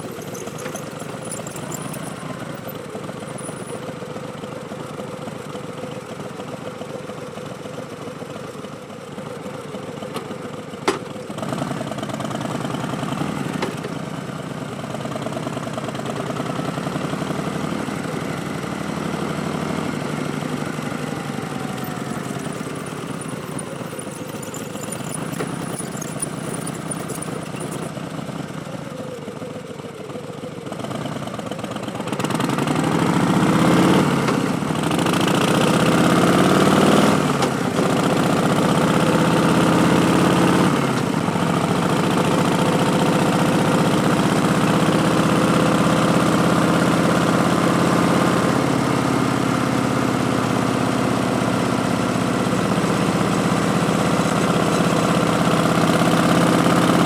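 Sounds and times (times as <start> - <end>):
motorcycle engine revving: 0.0 - 3.8, 11.4 - 28.9, 30.7 - 57.0.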